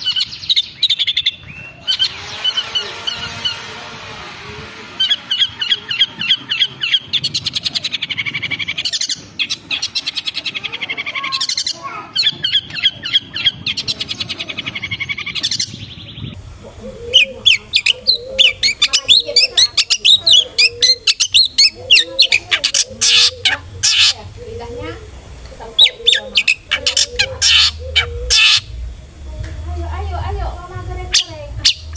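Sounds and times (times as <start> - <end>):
bird chattering song: 0.0 - 3.7, 4.9 - 28.9, 29.9 - 31.9.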